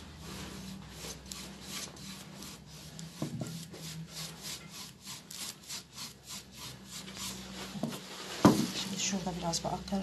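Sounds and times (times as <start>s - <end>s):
paintbrush scrubbing textured surface: 0.0s - 8.9s.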